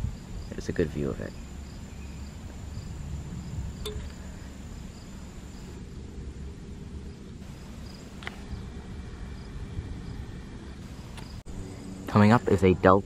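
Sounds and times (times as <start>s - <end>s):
insect drone with chirps: 0.0s - 13.0s.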